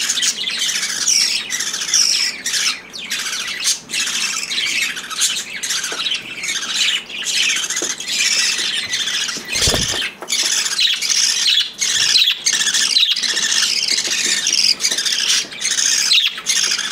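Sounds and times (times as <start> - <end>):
bird chicks begging squawks: 0.0 - 16.9.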